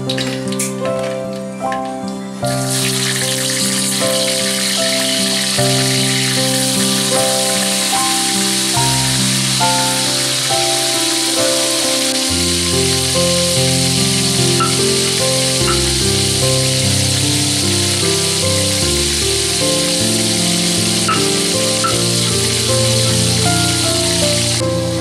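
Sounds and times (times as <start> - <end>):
oil sizzling in a wok: 0.0 - 1.4, 2.5 - 25.0
melodic background music: 0.0 - 25.0.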